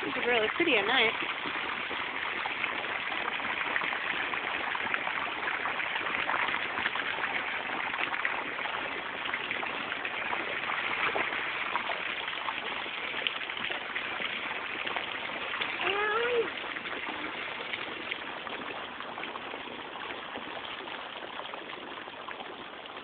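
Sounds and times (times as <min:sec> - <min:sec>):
water jets splashing into pool: 0:00.0 - 0:23.0.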